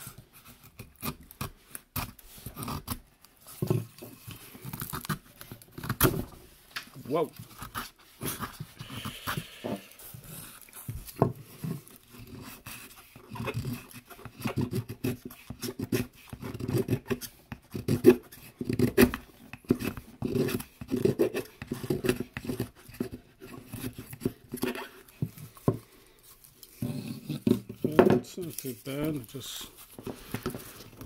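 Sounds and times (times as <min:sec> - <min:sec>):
knife scraping wood: 0:00.0 - 0:06.2, 0:07.0 - 0:31.0.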